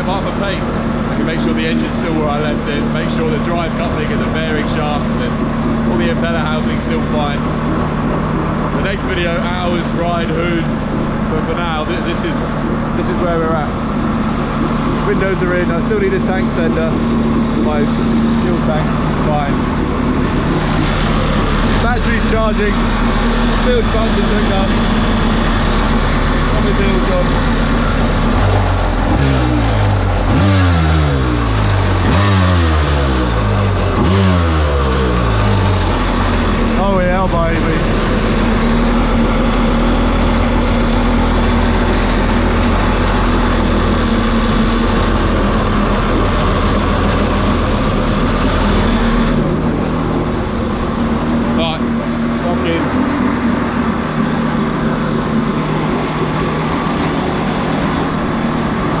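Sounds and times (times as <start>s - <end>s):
engine revving: 0.0s - 59.0s
steady low drone: 0.0s - 59.0s.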